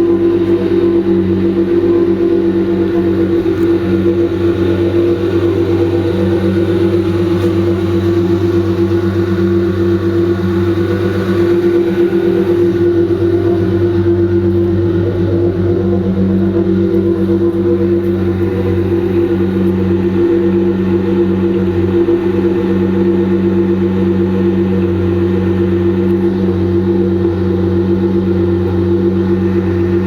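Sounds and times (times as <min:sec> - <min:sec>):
car exhaust idling: 0:00.0 - 0:30.0.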